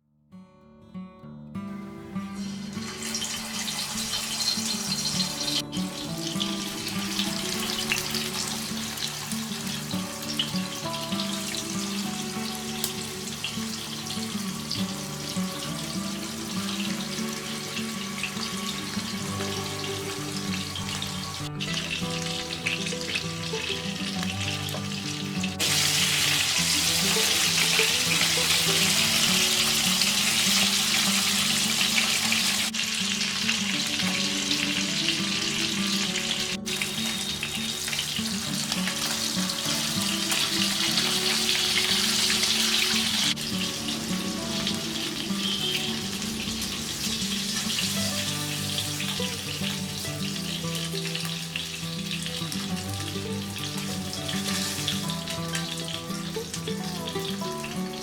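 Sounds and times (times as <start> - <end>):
food sizzling in oil: 2.2 - 58.0.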